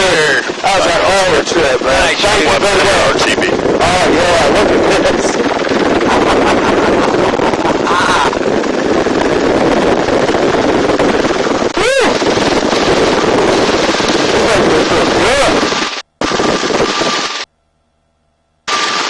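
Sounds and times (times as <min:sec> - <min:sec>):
wind buffeting microphone: 0:00.0 - 0:17.4
helicopter rotor and turbine: 0:00.0 - 0:17.5, 0:18.6 - 0:19.0.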